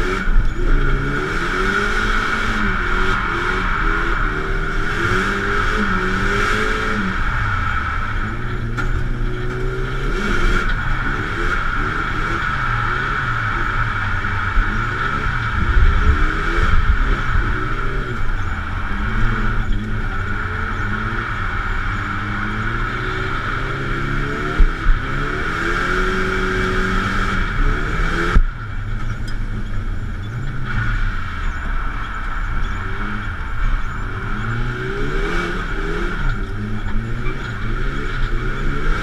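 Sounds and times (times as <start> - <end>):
car engine revving: 0.0 - 39.0
steady high whine: 0.0 - 39.0.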